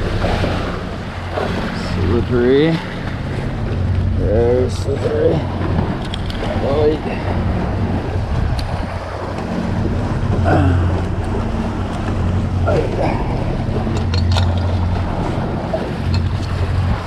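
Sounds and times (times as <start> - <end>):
low steady hum: 0.0 - 17.0
water washing past boat bow: 0.0 - 17.0
wind buffeting microphone: 0.0 - 17.0.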